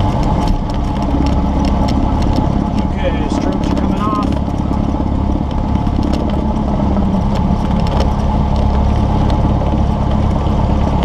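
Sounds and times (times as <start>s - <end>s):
light aircraft engine and propeller: 0.0s - 11.0s.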